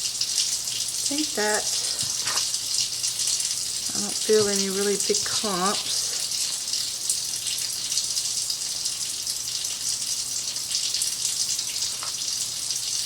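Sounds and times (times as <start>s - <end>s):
faucet running into sink: 0.0s - 13.0s.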